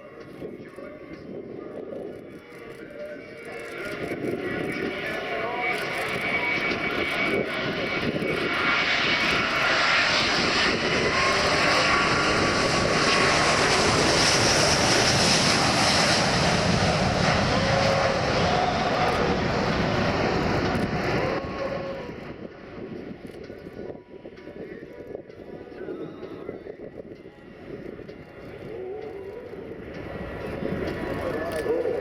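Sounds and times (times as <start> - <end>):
jet airliner flying past: 0.0 - 32.0.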